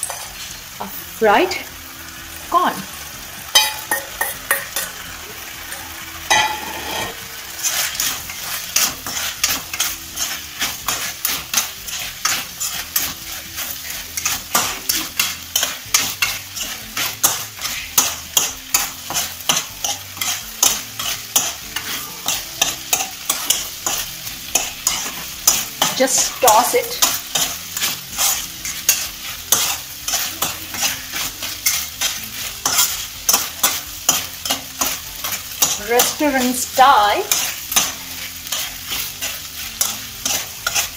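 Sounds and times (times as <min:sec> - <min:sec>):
spoon scraping and knocking pan: 0:00.0 - 0:01.6, 0:02.2 - 0:40.9
food frying and sizzling: 0:00.0 - 0:40.9.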